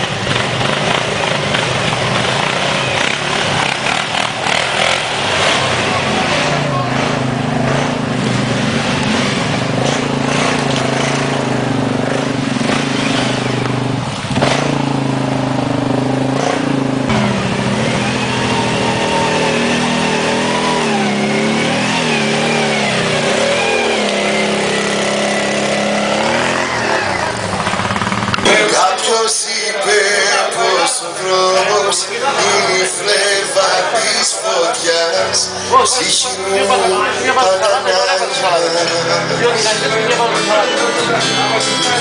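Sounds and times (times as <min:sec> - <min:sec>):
quad bike engine revving: 0:00.0 - 0:42.0.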